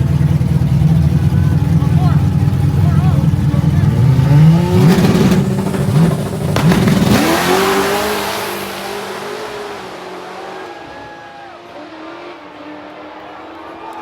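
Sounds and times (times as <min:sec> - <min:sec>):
drag racing engines revving: 0:00.0 - 0:14.0.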